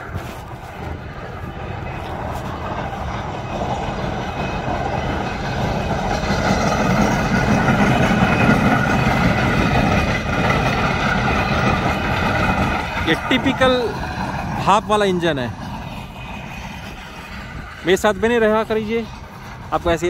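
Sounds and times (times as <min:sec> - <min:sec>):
steam traction engine running: 0:00.0 - 0:20.0.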